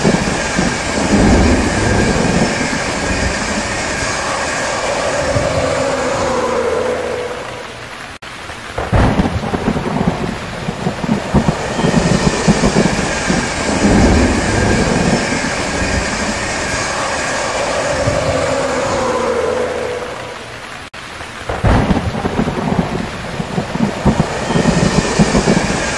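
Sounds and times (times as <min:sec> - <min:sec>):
heavy rain falling: 0:00.0 - 0:25.9
thunderclap rumbling: 0:00.0 - 0:25.9.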